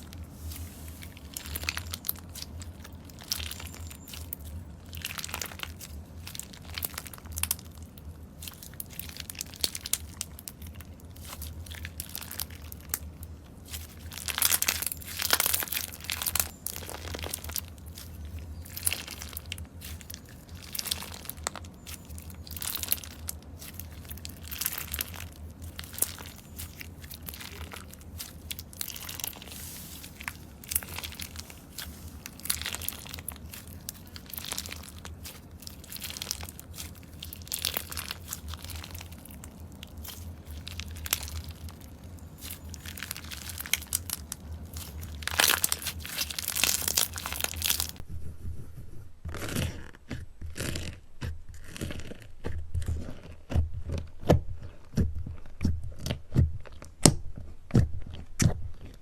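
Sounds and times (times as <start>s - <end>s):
crunchy slime squishes: 0.0s - 48.0s, 49.2s - 59.0s
slime crunching and crackling: 0.0s - 48.0s, 49.2s - 59.0s.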